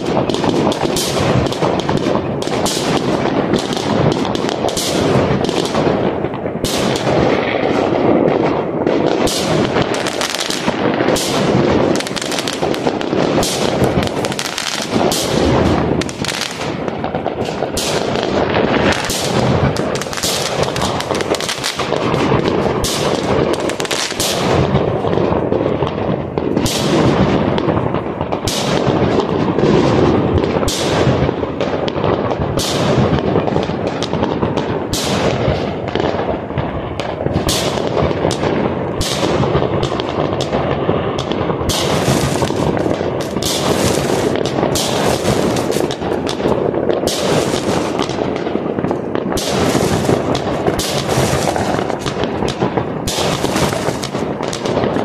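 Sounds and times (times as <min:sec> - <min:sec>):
fireworks bangs: 0:00.0 - 0:55.0
fireworks crackling and popping: 0:00.0 - 0:55.0.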